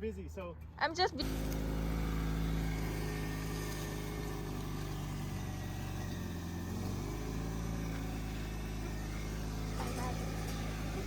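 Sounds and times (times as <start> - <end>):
car engine running: 0.6 - 11.0.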